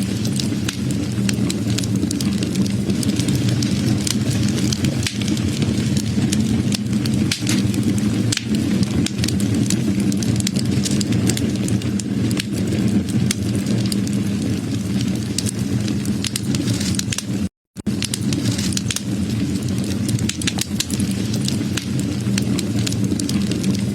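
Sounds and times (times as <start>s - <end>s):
wood fire crackling and popping: 0.0s - 23.9s.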